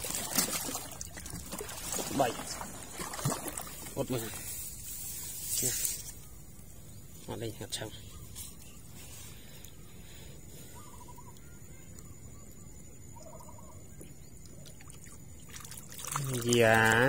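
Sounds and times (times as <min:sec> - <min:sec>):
low background hiss: 0:00.8 - 0:17.0.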